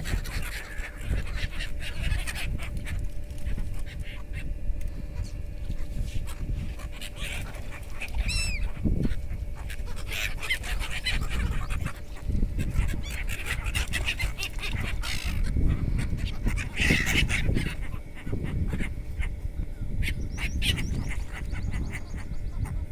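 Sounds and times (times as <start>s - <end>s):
steady low rumble: 0.0s - 22.9s
waterbirds honking: 0.0s - 22.9s.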